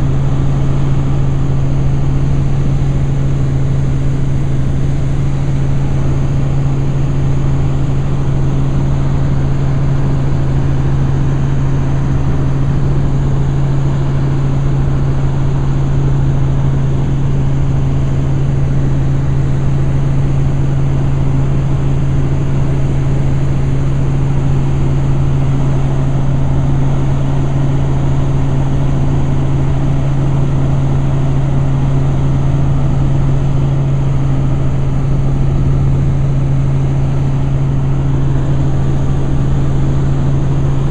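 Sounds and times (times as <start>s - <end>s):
helicopter engine and rotors: 0.0s - 40.9s.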